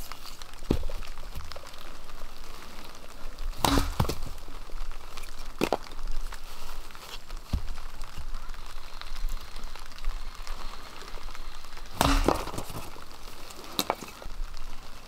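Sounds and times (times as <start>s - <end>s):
steady hiss: 0.0s - 15.0s
wood cracking as it splits: 0.0s - 15.0s.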